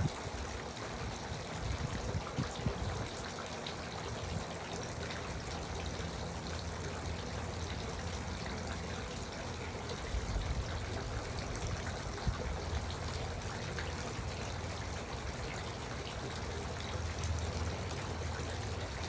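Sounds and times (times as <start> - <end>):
fountain splashing and trickling: 0.0 - 19.0.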